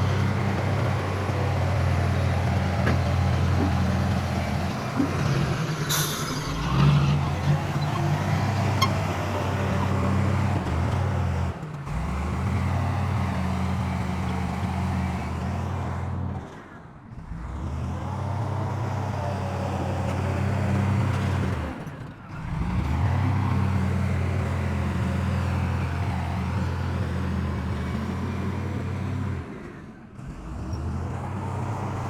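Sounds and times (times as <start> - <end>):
heavy diesel engine droning: 0.0 - 32.0.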